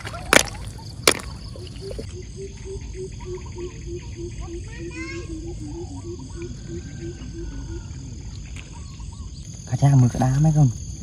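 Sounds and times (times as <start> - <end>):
faint bird chirps: 0.0 - 10.7.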